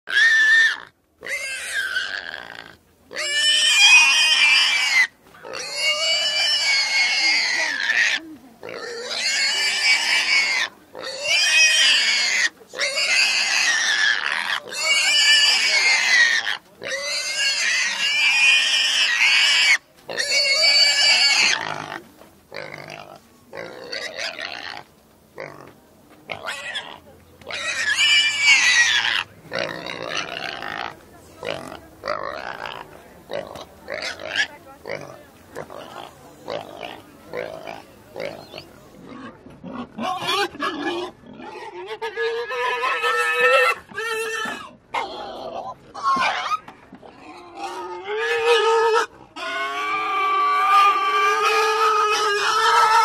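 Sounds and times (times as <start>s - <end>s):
pigs squealing: 0.1s - 25.7s, 26.3s - 53.0s.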